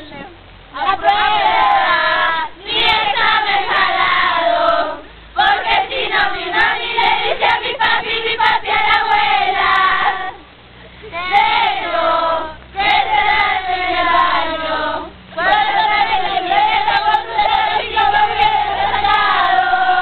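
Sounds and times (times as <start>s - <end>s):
young voices singing together: 0.0s - 20.0s.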